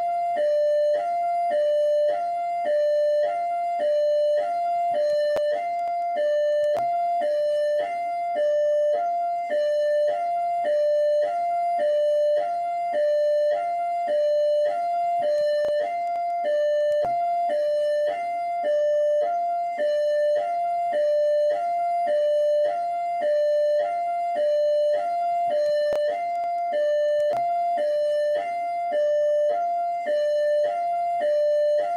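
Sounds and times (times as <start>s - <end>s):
two-tone police siren: 0.0s - 31.9s.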